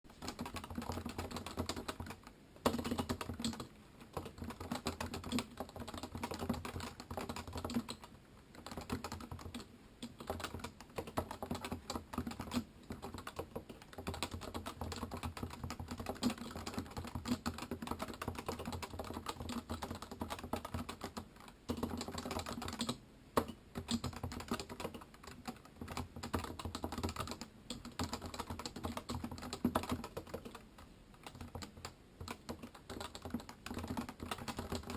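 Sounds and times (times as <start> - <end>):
keyboard typing: 0.1 - 34.9.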